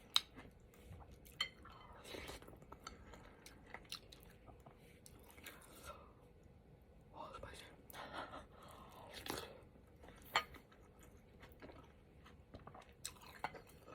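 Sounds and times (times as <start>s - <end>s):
person chewing food: 0.0s - 6.5s, 8.3s - 13.9s.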